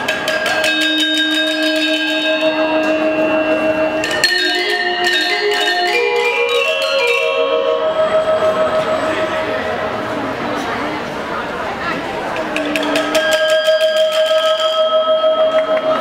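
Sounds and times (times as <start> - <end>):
metallophone ensemble playing: 0.0 - 16.0.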